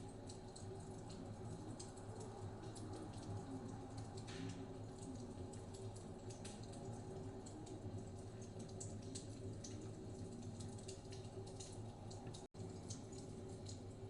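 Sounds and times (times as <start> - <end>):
fire crackling in fireplace: 0.0 - 14.0.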